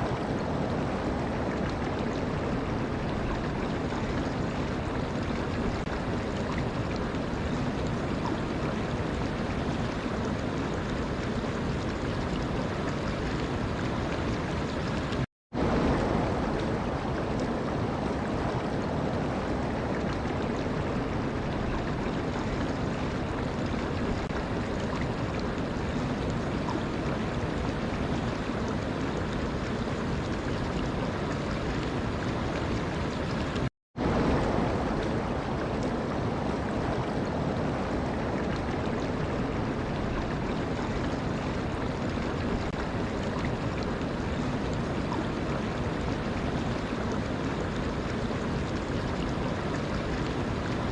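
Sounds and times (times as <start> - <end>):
rushing water: 0.0 - 50.9.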